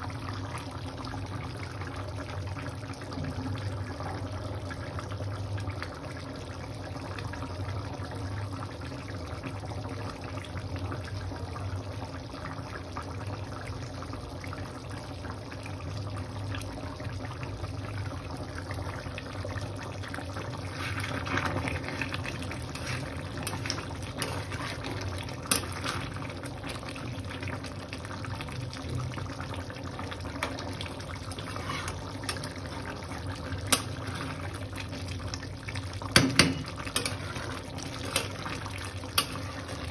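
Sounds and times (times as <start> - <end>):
curry bubbling in a pan: 0.0 - 39.9.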